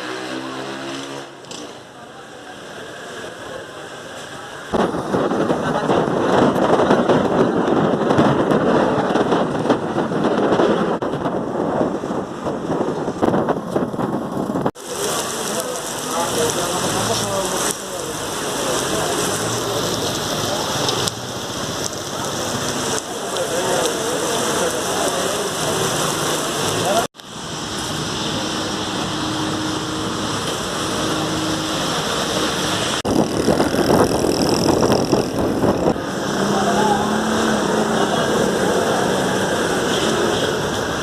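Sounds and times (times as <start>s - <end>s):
rain pattering on surfaces: 2.2s - 11.2s, 12.8s - 41.0s.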